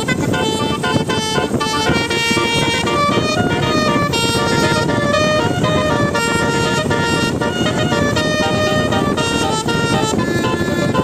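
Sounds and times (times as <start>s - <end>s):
bus horn playing a tune: 0.0s - 11.0s.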